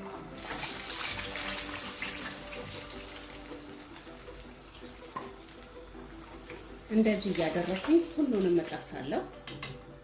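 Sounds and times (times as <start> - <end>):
fish sizzling in oil: 0.0 - 9.3.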